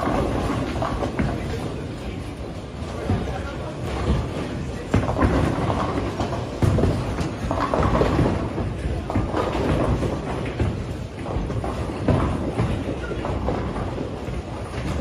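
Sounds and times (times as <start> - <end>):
bowling balls rolling: 0.0 - 15.0
bowling pins crashing: 2.9 - 15.0.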